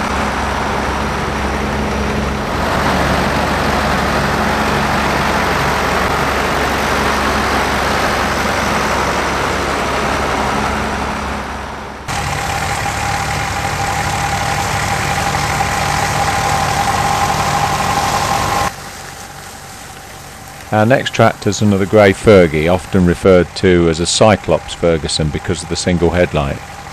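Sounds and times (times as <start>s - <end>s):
steady high whine: 0.0s - 26.9s
tractor engine running: 0.0s - 26.9s.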